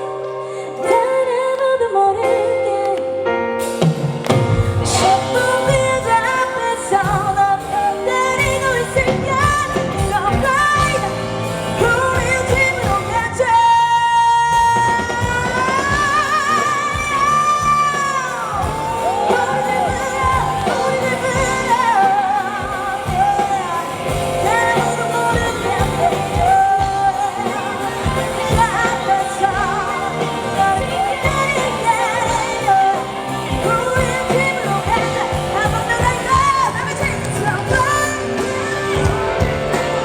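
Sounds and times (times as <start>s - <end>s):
dance-pop backing track: 0.0s - 40.0s
woman singing: 0.0s - 40.0s.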